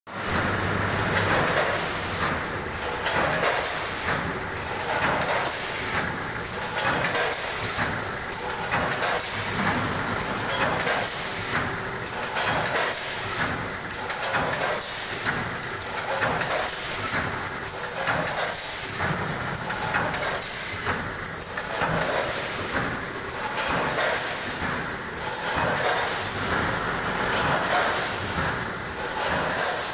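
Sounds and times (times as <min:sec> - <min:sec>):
packing machine clatter and hiss: 0:00.1 - 0:29.9.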